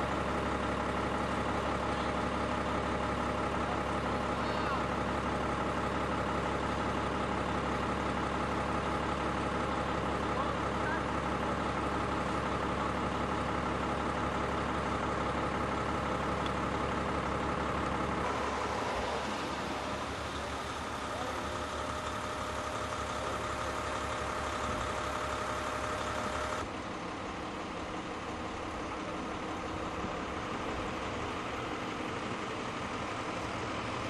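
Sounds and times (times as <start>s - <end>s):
street noise: 0.0s - 34.0s
vehicle engine hum: 0.0s - 34.0s.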